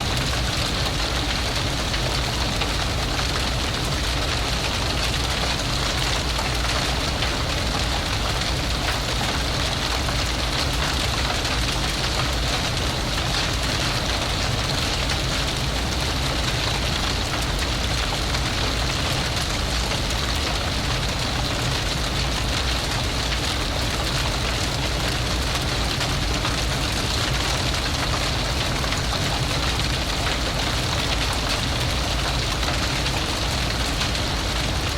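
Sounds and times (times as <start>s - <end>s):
fire crackling: 0.0s - 34.9s.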